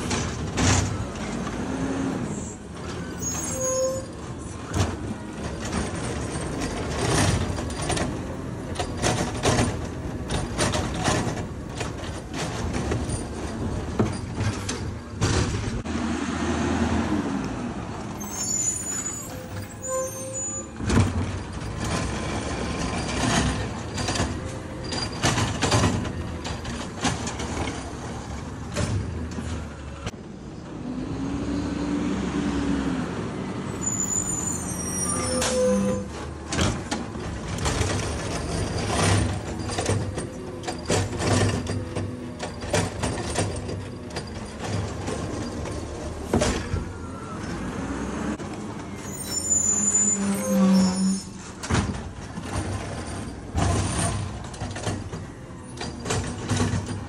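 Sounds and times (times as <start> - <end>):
garbage truck arm lifting cart: 0.0 - 15.9, 18.0 - 30.2, 33.7 - 57.0.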